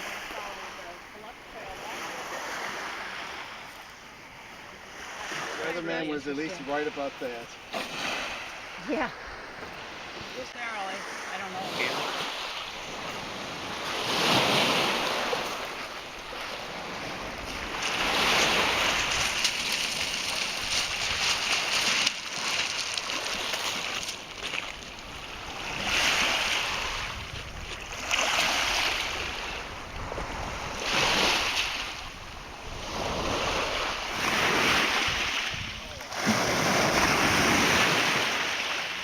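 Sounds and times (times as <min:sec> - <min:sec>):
waves breaking on shore: 0:00.0 - 0:39.0.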